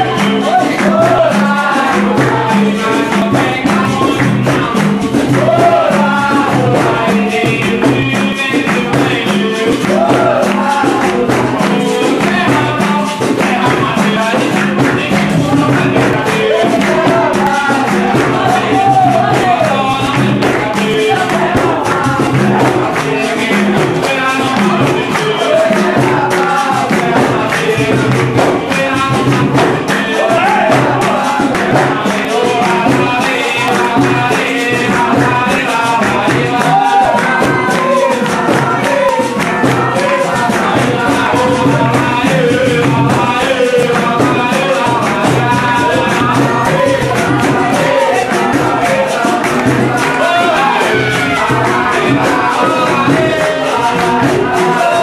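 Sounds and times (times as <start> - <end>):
group singing: 0.0 - 55.0
hand drums: 0.0 - 55.0
people clapping: 0.0 - 55.0.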